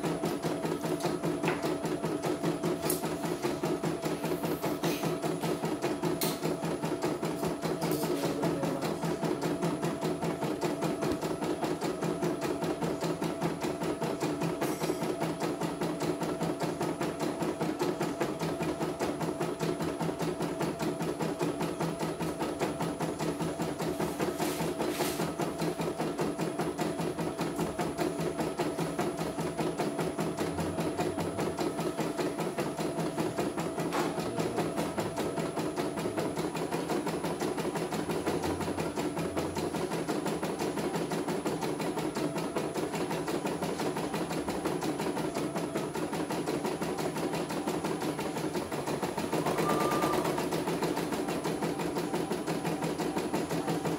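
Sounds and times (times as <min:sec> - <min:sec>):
embroidery machine stitching: 0:00.0 - 0:53.9.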